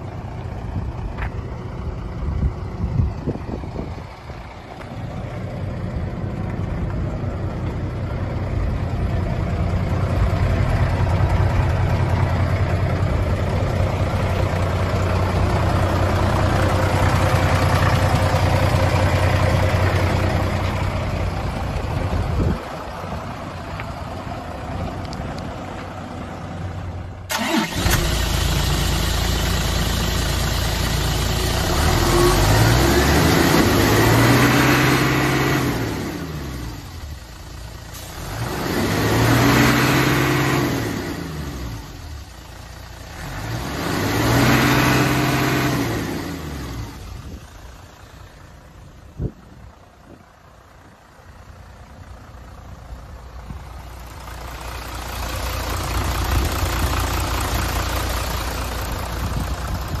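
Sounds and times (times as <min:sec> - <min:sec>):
diesel engine revving: 0:00.0 - 0:49.8, 0:50.5 - 1:00.0.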